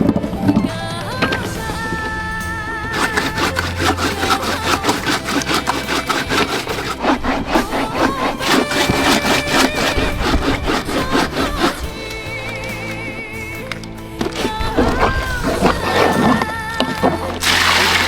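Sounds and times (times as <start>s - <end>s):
faint background music: 0.0s - 18.0s
rhythmic rasping strokes: 0.0s - 18.0s.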